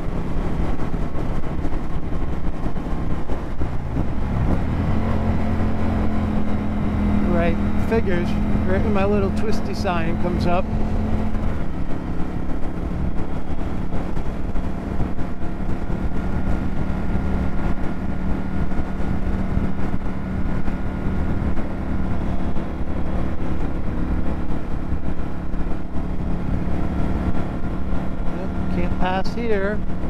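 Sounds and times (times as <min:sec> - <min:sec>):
motorcycle engine cruising: 0:00.0 - 0:30.0
wind and road noise: 0:00.0 - 0:30.0.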